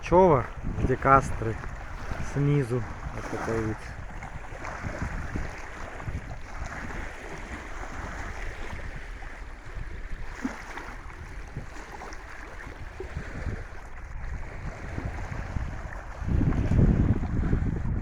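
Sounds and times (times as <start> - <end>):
sea waves washing on shore: 0.0 - 18.0
wind rumbling on microphone: 0.0 - 18.0.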